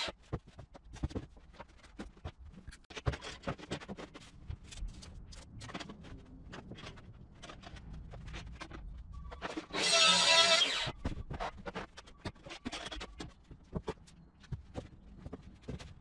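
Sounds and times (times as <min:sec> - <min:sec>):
boards knocking and scraping: 0:00.0 - 0:04.9, 0:05.5 - 0:16.0.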